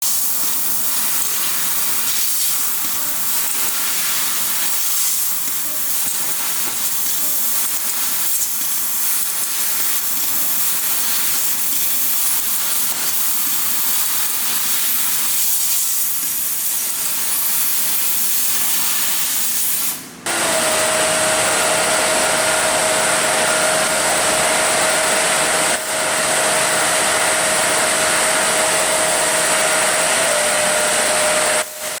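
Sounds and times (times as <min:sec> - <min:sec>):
laser cutter hissing: 0:00.0 - 0:32.0.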